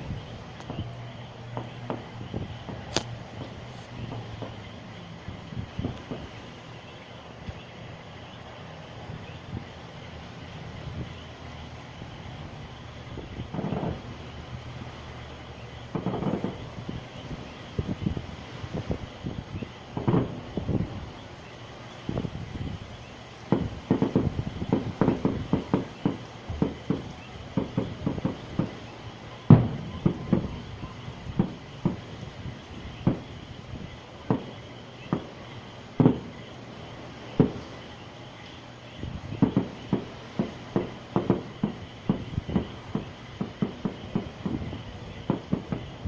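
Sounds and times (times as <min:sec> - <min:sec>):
fireworks popping and banging: 0:00.0 - 0:07.9, 0:09.0 - 0:46.0.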